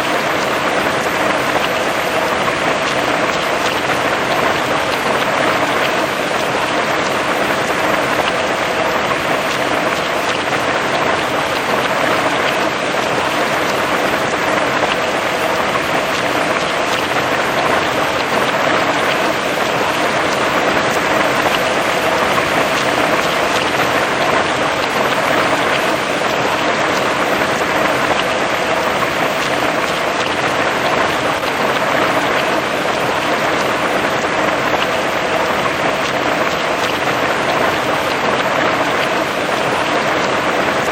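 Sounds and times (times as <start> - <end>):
heavy rain on grass and leaves: 0.0 - 40.9.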